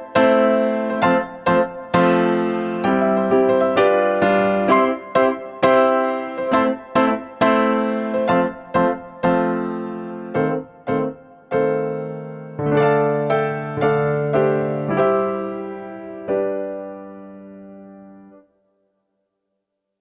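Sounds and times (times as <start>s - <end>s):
slow piano melody: 0.0s - 18.7s.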